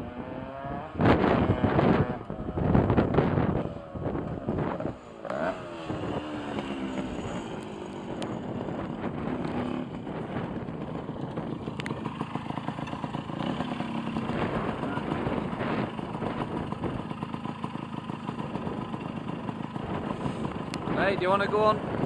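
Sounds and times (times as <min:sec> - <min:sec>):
moped engine revving: 0:00.0 - 0:22.0.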